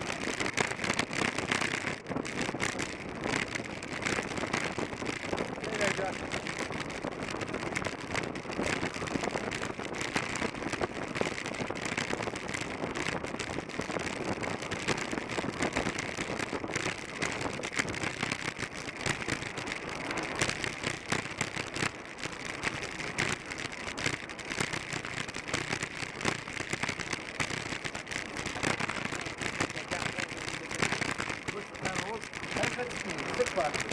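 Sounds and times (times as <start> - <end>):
bicycle tyre hiss on concrete: 0.0 - 33.9
wind over microphone: 0.0 - 33.9.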